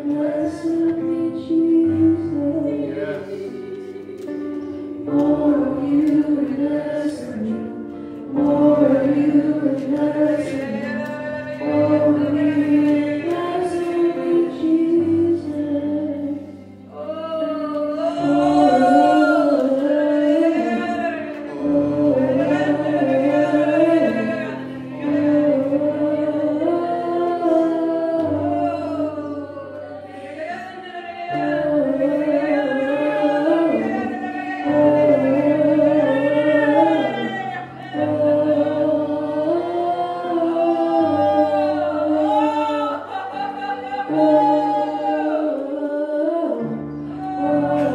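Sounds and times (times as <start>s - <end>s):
congregation singing: 0.0s - 47.9s.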